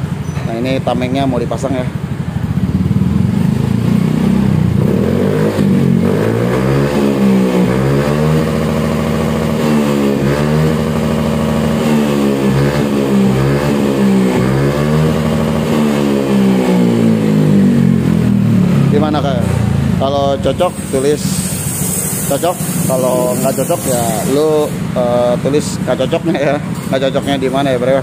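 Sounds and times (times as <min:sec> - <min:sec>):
scooter engine revving: 0:00.0 - 0:28.0.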